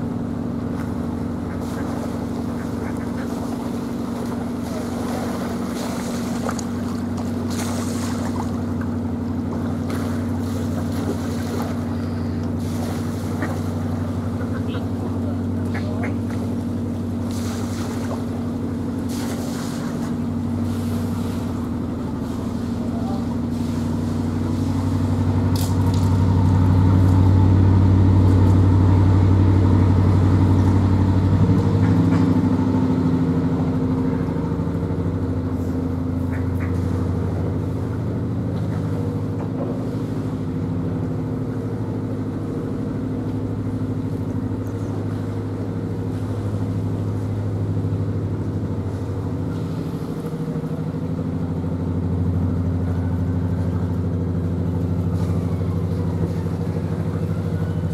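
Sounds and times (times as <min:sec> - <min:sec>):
boat engine running: 0:00.0 - 0:57.9.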